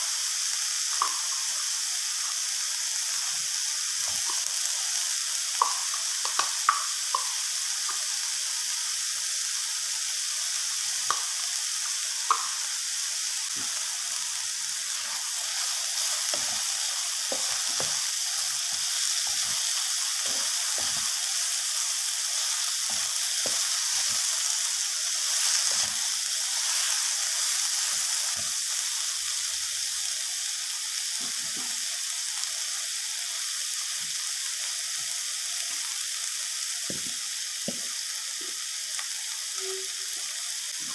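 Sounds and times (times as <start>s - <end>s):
food sizzling in oil: 0.0s - 40.9s.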